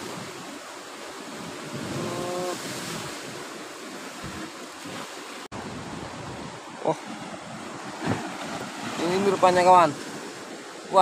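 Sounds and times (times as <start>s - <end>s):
waves washing on rocky shore: 0.0s - 11.0s.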